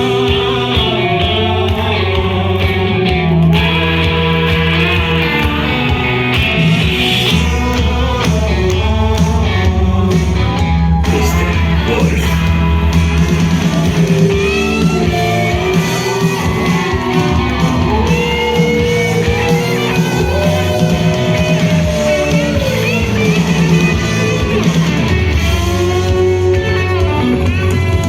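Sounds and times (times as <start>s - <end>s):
rock song with singing: 0.0s - 28.0s.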